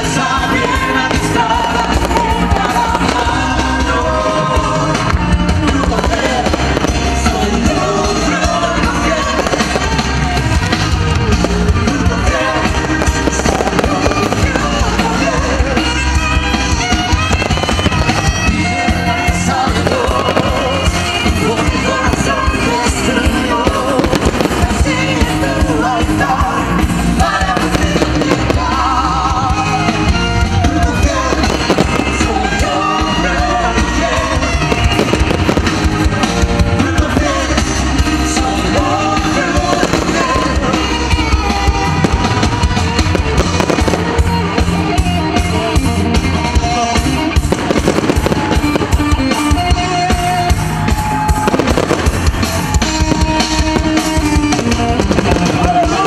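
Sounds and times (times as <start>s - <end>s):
fireworks banging and crackling: 0.0s - 56.0s
loud music with singing: 0.0s - 56.0s.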